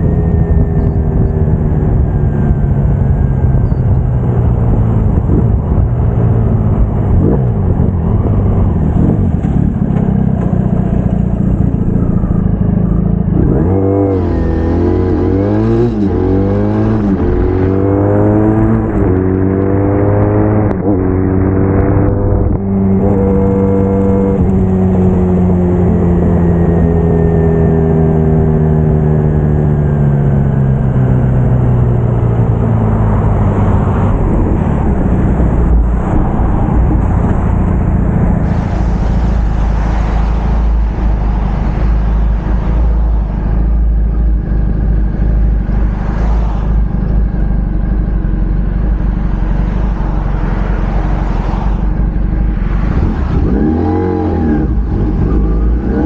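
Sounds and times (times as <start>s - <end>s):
motorcycle engine: 0.0s - 56.0s
road noise: 0.0s - 56.0s
rushing wind: 0.0s - 56.0s.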